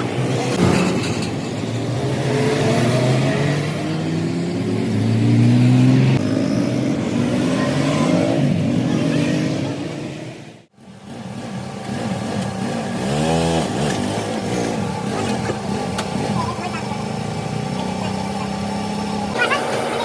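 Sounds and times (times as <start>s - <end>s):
vehicle engine speeding up: 1.7s - 19.4s.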